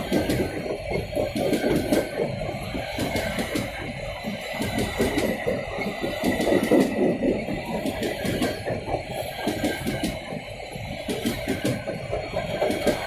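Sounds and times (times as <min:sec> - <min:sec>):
freight train wheels clattering: 0:00.0 - 0:13.0.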